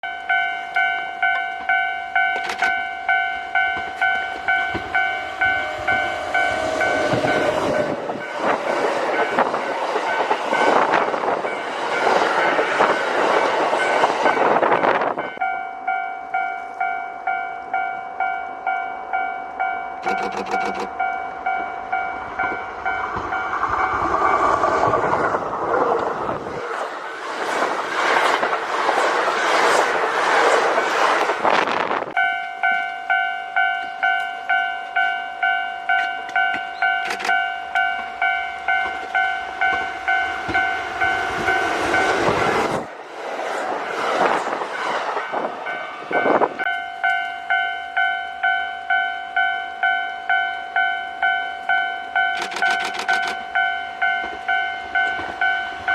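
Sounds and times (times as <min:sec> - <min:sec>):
level crossing alarm clanging: 0:00.0 - 0:24.9, 0:32.1 - 0:42.9, 0:45.2 - 0:55.9
electric train passing: 0:00.0 - 0:55.9.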